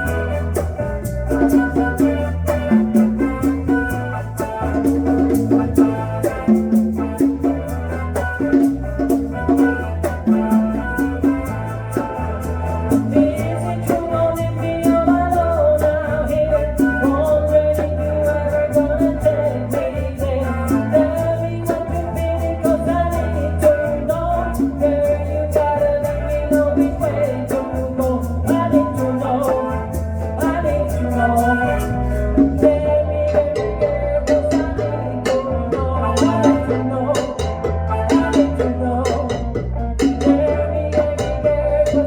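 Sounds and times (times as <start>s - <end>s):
bass: 0.0s - 42.0s
congas and bongos: 0.0s - 42.0s
guitar: 0.0s - 42.0s
keyboard: 0.0s - 42.0s
wavering lead melody: 0.0s - 42.0s.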